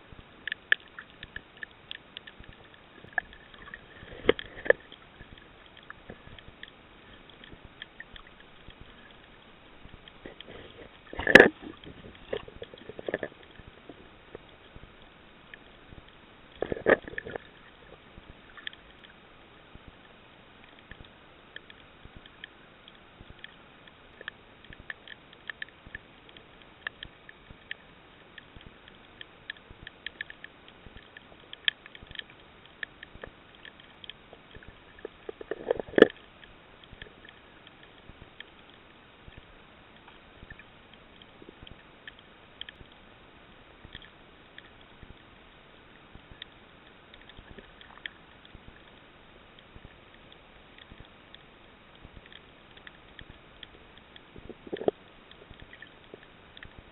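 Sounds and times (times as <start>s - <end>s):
bursts of water noise: 0.0s - 56.9s
underwater crackling clicks: 0.4s - 43.1s, 43.8s - 56.9s.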